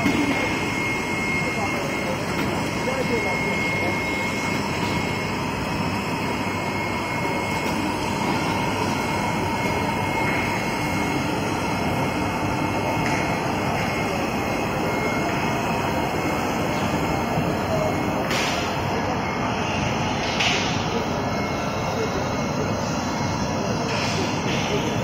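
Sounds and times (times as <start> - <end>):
production line machinery running: 0.0 - 25.0.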